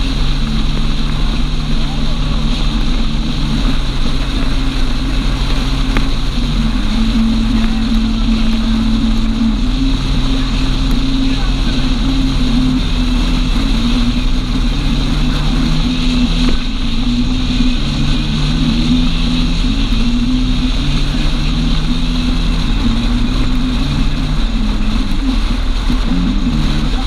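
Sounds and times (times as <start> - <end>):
road noise: 0.0 - 27.0
vehicle engine cruising: 0.0 - 27.0
wind on microphone: 0.0 - 27.0.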